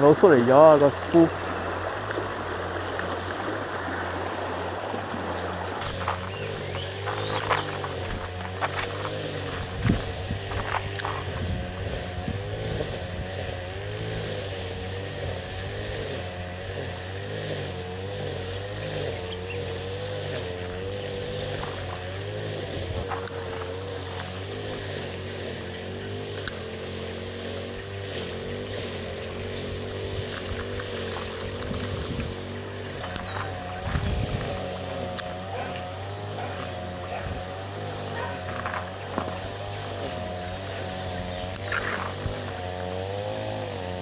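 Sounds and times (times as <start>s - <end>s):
motor droning: 0.0s - 44.0s.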